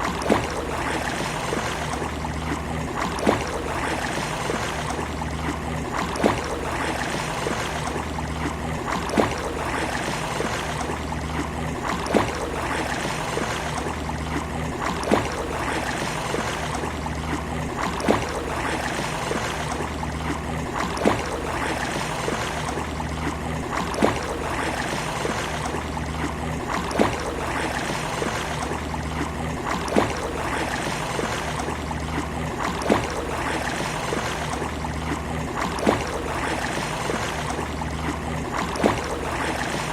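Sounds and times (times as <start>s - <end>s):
water rushing and lapping: 0.0s - 39.9s.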